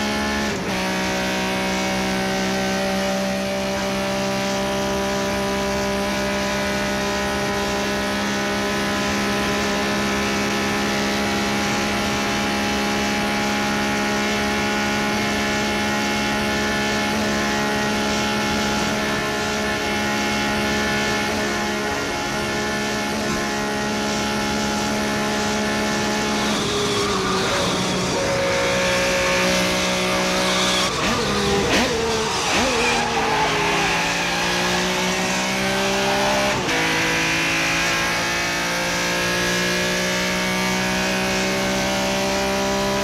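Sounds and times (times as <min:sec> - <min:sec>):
car engine droning at high revs: 0:00.0 - 0:43.0.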